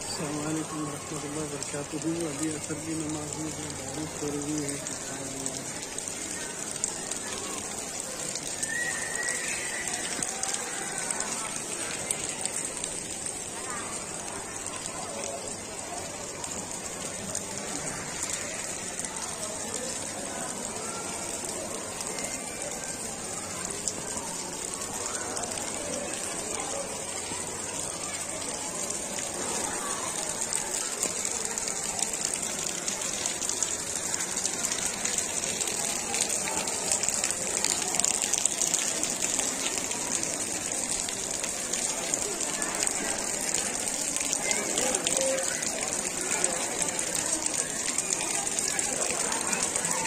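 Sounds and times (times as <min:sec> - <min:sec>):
steady rain pattering: 0:00.0 - 0:50.0.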